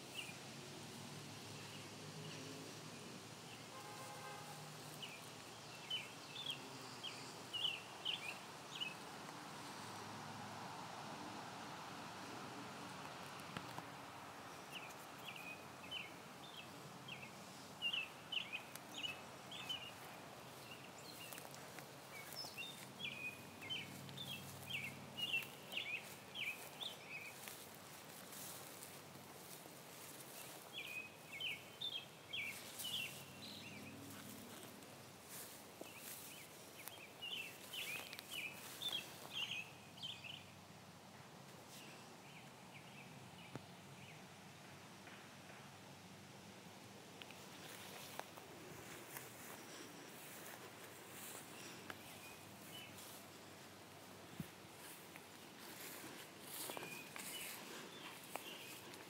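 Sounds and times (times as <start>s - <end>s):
songbird chirping: 0.0s - 45.8s, 46.7s - 59.0s
faint outdoor hiss: 0.0s - 59.0s.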